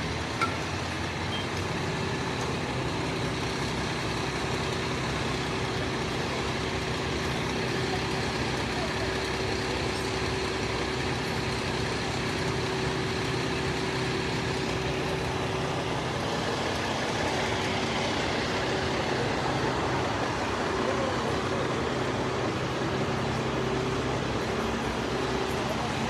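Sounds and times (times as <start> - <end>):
heavy vehicle engine idling: 0.0 - 26.0.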